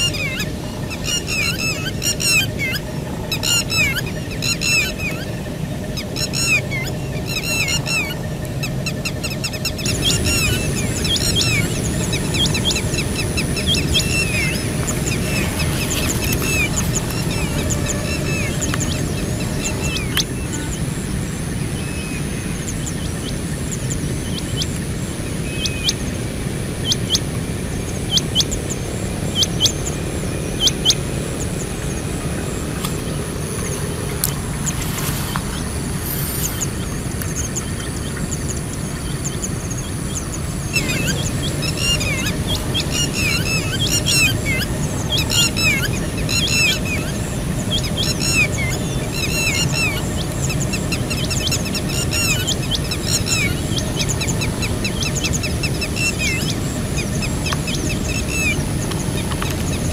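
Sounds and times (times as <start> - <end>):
birds chirping: 0.0 - 59.9
steady low rumble: 0.0 - 59.9.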